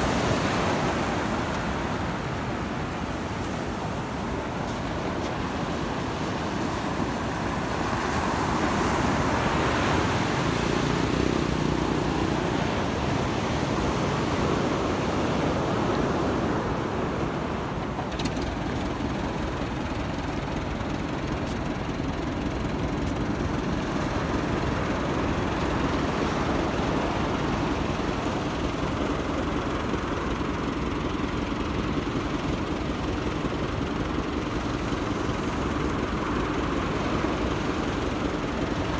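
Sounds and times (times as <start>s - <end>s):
low engine hum: 0.0s - 38.9s
surf washing onto beach: 0.0s - 38.9s.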